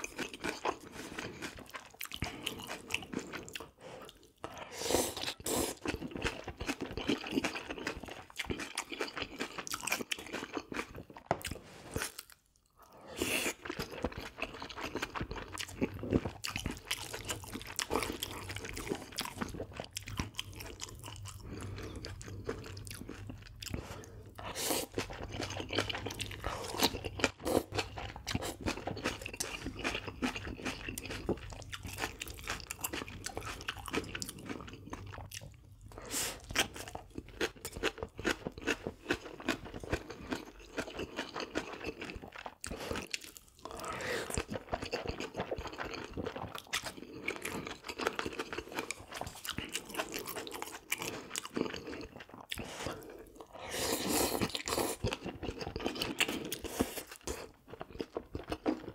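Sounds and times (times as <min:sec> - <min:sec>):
person chewing crunchy food: 0:00.0 - 0:58.9.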